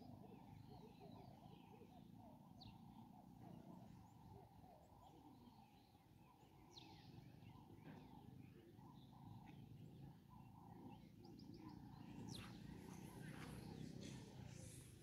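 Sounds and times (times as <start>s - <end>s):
small bird chirps: 0.0s - 15.0s.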